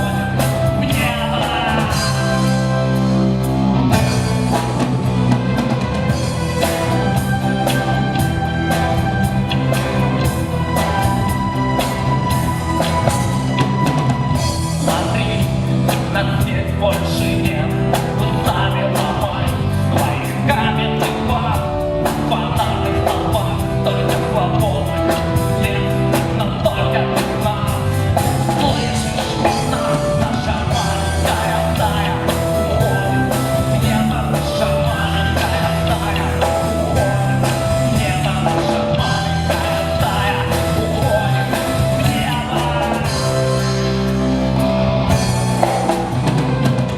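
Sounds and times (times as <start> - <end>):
person singing: 0.0 - 3.1, 3.8 - 44.1
drum kit beat: 0.0 - 46.9
rock band playing live: 0.0 - 46.9.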